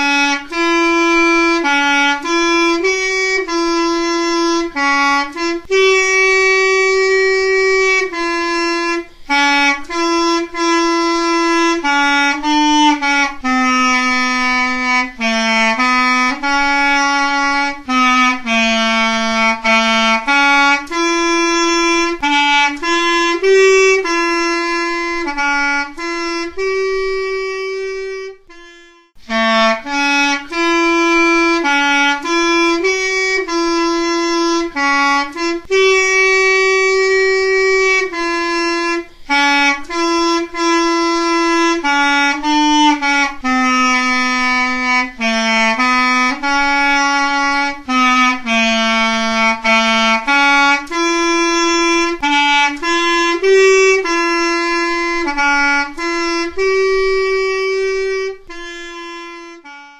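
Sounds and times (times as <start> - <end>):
solo clarinet melody: 0.0 - 59.9.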